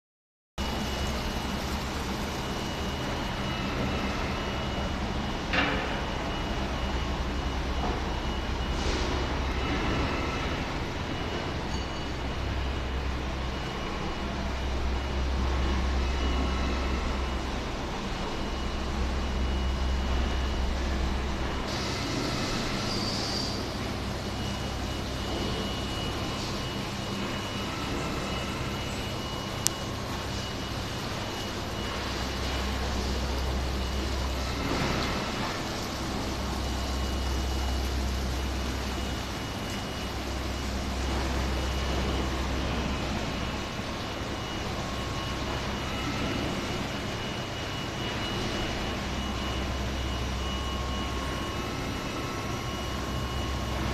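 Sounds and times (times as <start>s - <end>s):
faint steady high tone: 0.6s - 53.9s
low machinery rumble: 0.6s - 53.9s.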